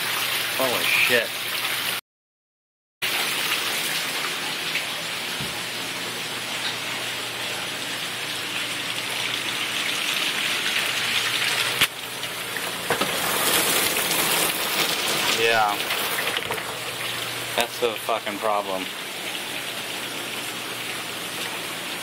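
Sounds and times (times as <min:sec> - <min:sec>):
rainwater rushing and splashing: 0:00.0 - 0:02.0, 0:03.0 - 0:22.0.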